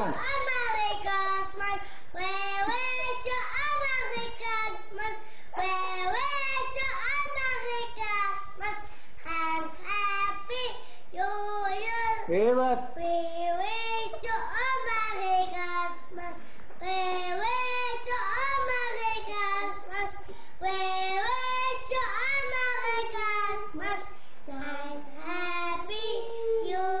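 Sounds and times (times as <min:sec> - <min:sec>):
child singing: 0:00.0 - 0:12.3, 0:12.9 - 0:27.0.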